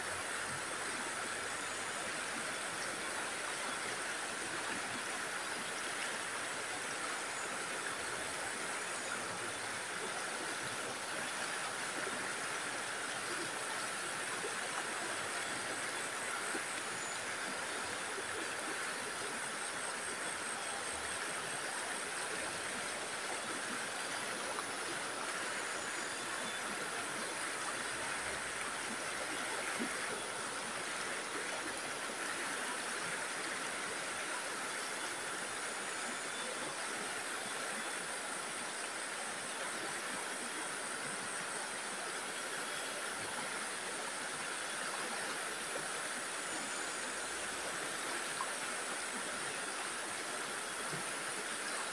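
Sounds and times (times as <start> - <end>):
stream running over rocks: 0.0 - 51.9.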